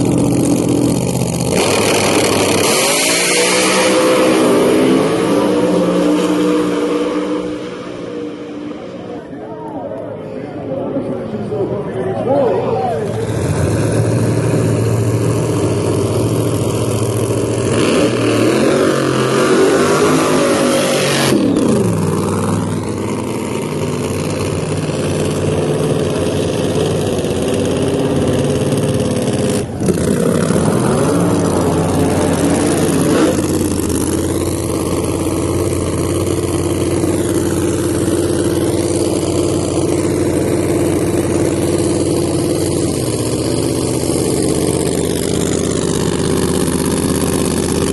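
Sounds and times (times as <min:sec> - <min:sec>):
drag car engines idling and revving: 0:00.0 - 0:47.9.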